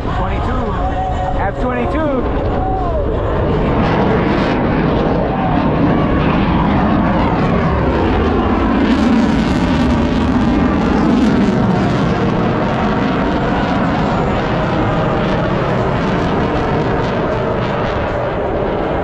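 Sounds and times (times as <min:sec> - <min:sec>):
airplane engine flying past: 0:00.0 - 0:19.0.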